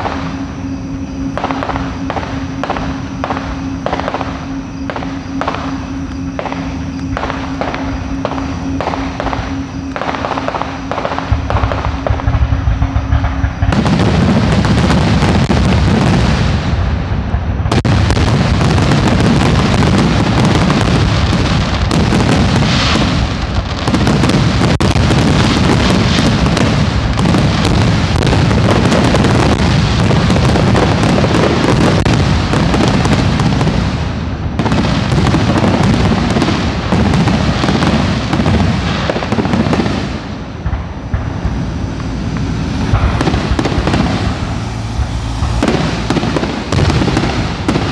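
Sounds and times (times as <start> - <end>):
fireworks booming: 0.0 - 47.9.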